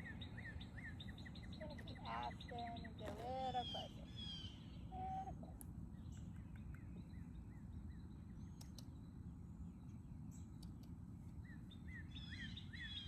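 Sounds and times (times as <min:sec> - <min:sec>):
low steady rumble: 0:00.0 - 0:13.0
small bird chirping: 0:00.0 - 0:13.0.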